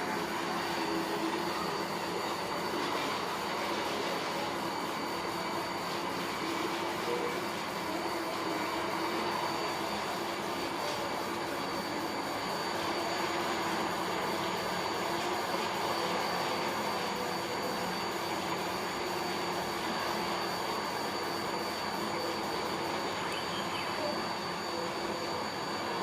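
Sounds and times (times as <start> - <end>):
steady machine running noise: 0.0 - 26.0.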